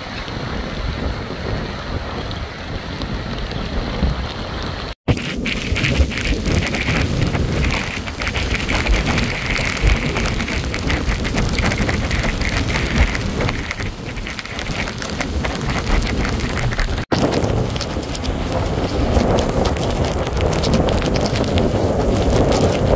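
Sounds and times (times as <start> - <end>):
surf breaking on shore: 0.0 - 22.9
wind rumble on microphone: 0.0 - 22.9.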